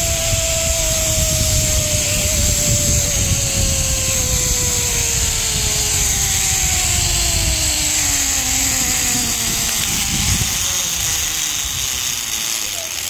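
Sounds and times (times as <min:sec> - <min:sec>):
wind buffeting microphone: 0:00.0 - 0:12.7
zipline pulleys whining on cable: 0:00.0 - 0:13.0.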